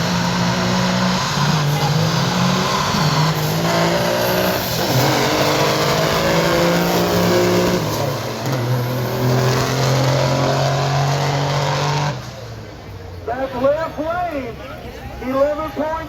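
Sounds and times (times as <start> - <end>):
diesel truck engines revving: 0.0 - 16.0.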